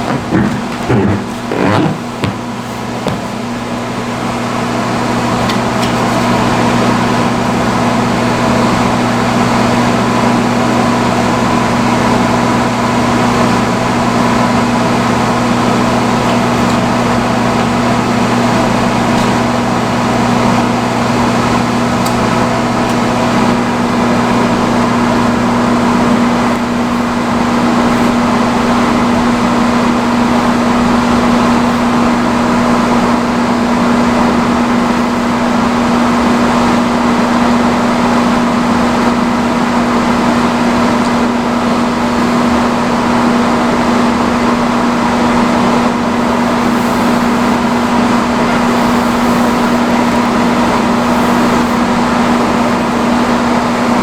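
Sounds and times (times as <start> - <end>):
hood hair dryer running: 0.0 - 54.0.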